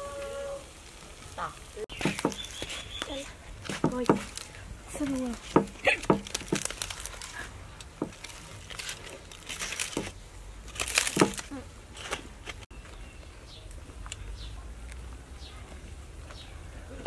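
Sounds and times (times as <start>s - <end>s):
aluminium foil crinkling: 0.2s - 14.2s.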